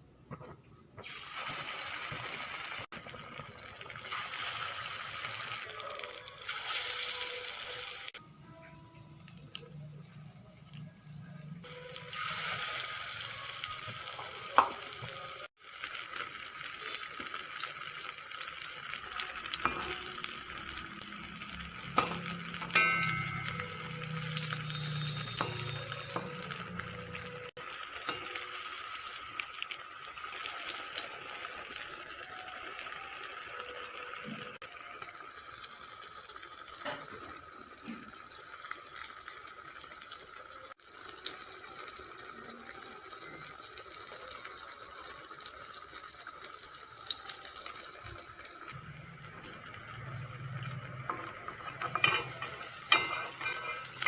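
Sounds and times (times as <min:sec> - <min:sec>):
deep-frying sizzle: 0:01.0 - 0:08.2, 0:09.3 - 0:54.0.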